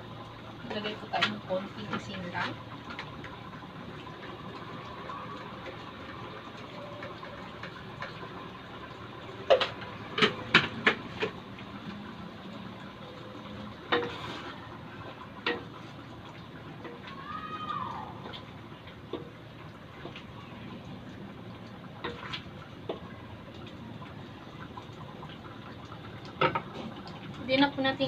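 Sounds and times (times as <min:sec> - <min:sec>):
stew bubbling in a wok: 0:00.0 - 0:28.0.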